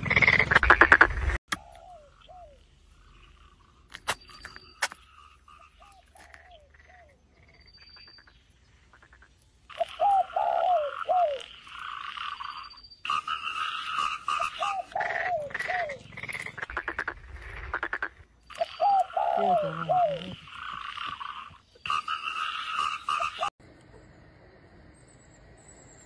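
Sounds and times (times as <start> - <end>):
frogs croaking: 0.0 - 23.5.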